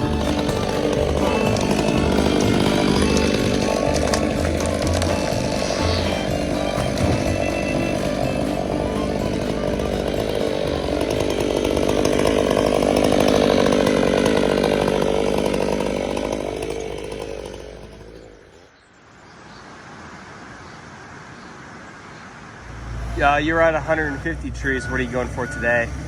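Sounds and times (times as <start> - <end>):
chainsaw running at high revs: 0.0 - 18.7, 23.2 - 26.0.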